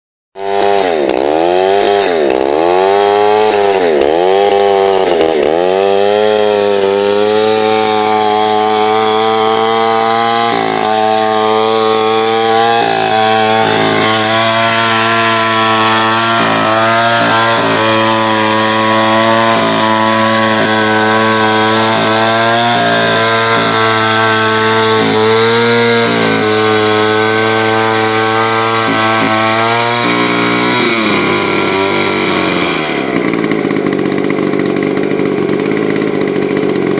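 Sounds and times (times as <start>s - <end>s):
chainsaw engine running: 0.4s - 36.9s.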